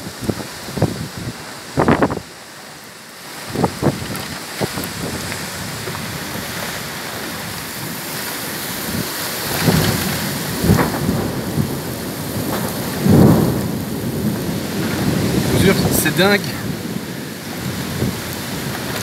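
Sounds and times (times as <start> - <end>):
heavy rain pouring: 0.0 - 19.0
thunder rumbling: 3.5 - 19.0.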